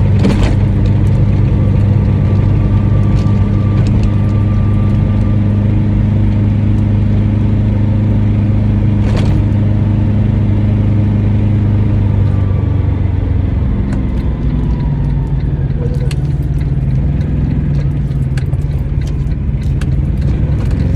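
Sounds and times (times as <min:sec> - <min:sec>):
small car engine drone: 0:00.0 - 0:20.9.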